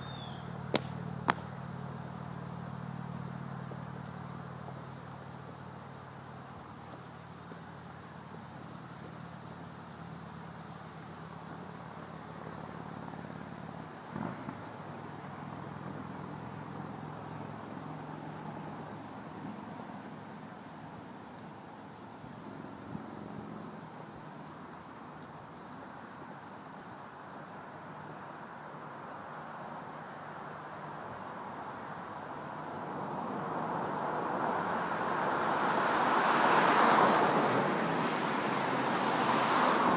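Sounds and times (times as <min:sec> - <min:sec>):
crickets chirping: 0:00.0 - 0:39.9
road vehicle approaching: 0:00.0 - 0:39.9.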